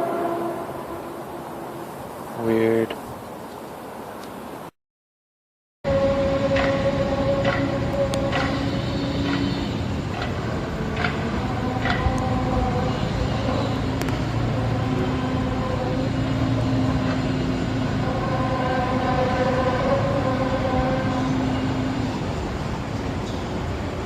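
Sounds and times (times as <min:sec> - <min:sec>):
low droning hum: 0:00.0 - 0:02.9, 0:05.9 - 0:24.0.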